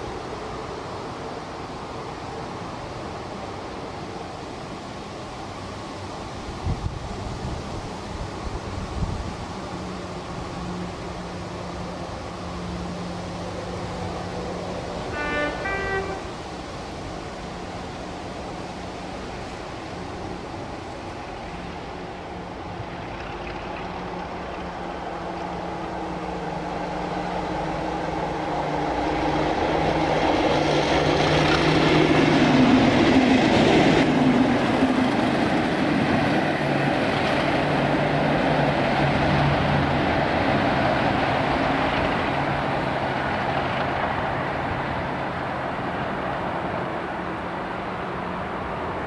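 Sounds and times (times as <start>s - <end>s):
diesel locomotives passing: 0.0s - 49.0s.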